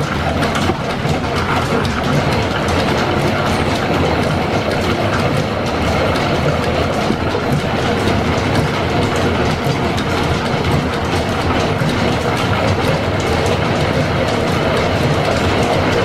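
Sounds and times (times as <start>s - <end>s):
machine running with fine clatter: 0.0s - 16.0s.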